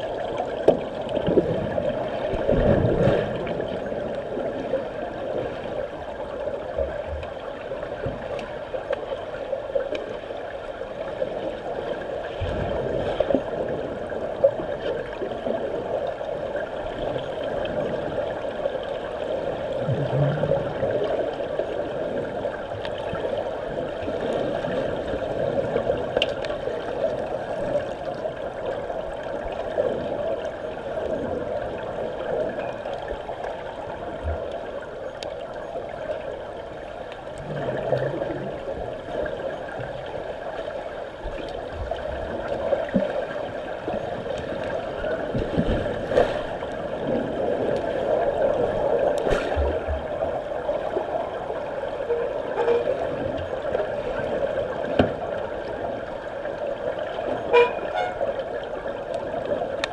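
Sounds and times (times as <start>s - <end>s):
muffled underwater water churning: 0.0s - 59.9s.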